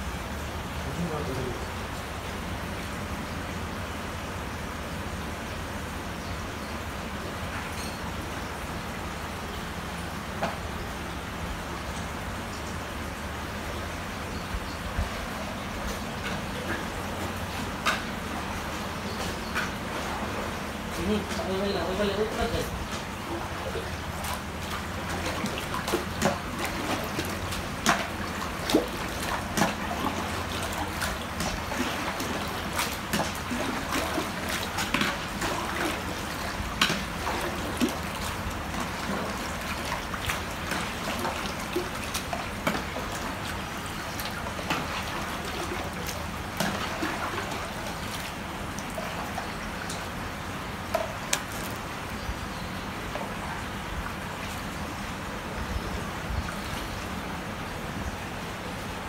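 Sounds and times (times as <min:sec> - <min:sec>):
low steady hum: 0:00.0 - 0:59.0
water trickling into tank: 0:00.0 - 0:59.0.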